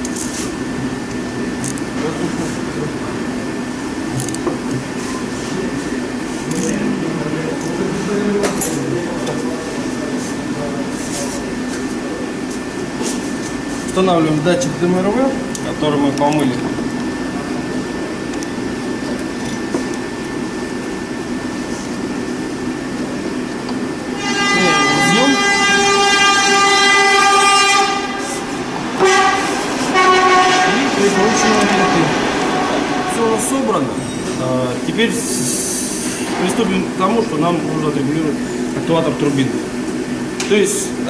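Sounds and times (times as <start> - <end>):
steady machine hum: 0.0 - 41.0
workshop background noise: 0.0 - 41.0.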